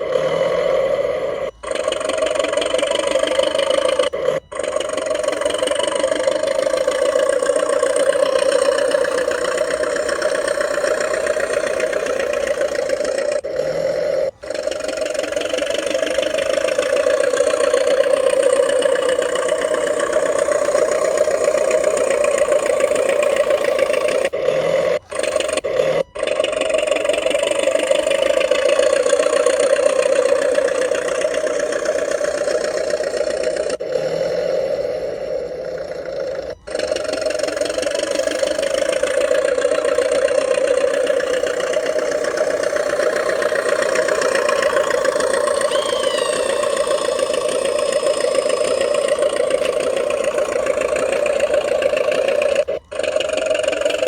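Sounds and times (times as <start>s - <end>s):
rc bulldozer motor drone: 0.0s - 54.0s.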